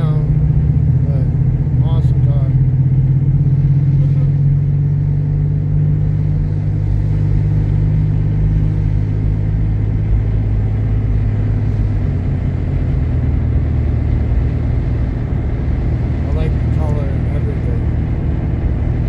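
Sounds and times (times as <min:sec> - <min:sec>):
car engine drone inside cabin: 0:00.0 - 0:19.0.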